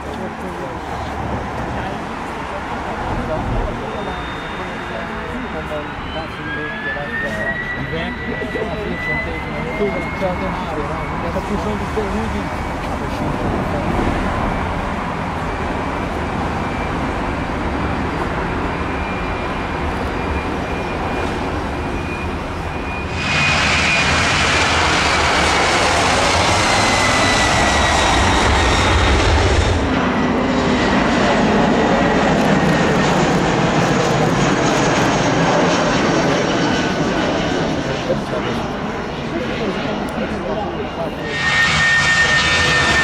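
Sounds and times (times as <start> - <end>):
jet engines at takeoff whining: 0.0 - 43.0
landing jet hum with whine: 0.0 - 43.0.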